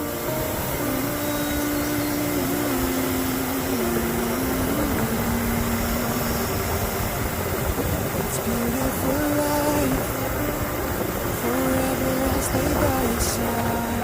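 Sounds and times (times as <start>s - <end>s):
pop music melody: 0.0s - 14.0s
steady rushing noise: 0.0s - 14.0s.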